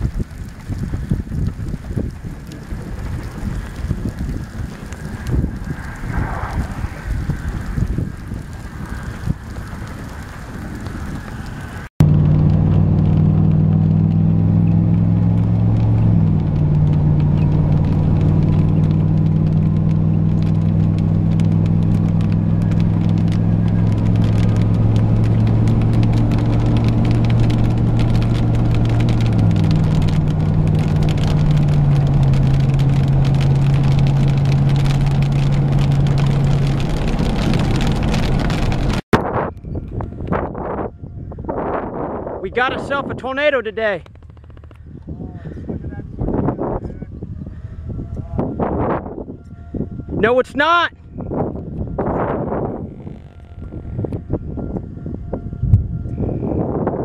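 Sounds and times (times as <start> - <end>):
car engine drone and road noise: 0.0 - 57.0
wind buffeting microphone: 0.0 - 57.0.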